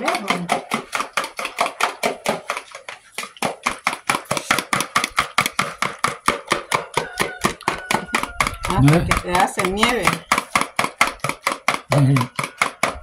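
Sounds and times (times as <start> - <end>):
whisk beating in a bowl: 0.0 - 13.0.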